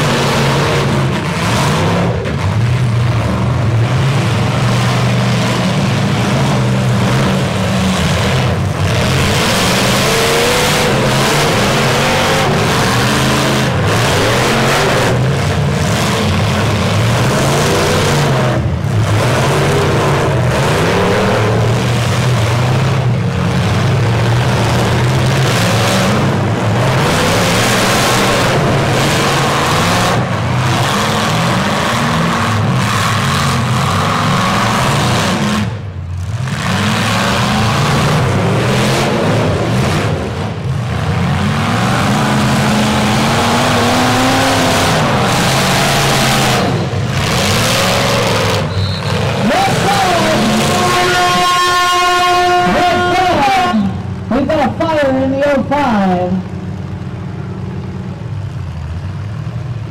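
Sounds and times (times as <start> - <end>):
truck engines revving: 0.0 - 59.9.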